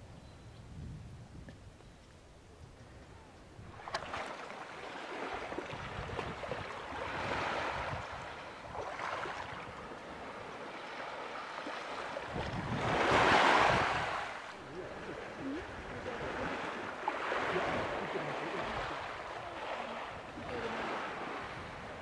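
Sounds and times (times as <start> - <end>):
small waves lapping at shore: 3.0 - 22.0.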